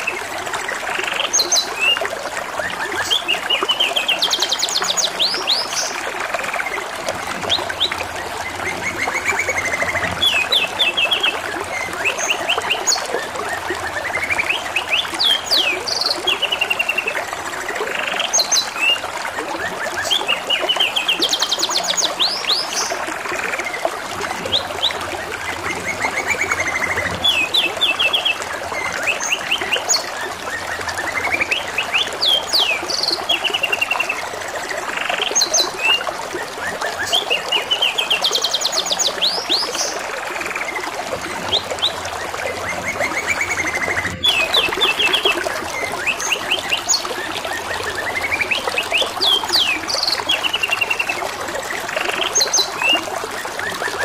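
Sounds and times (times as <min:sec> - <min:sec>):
running water trickling: 0:00.0 - 0:54.0.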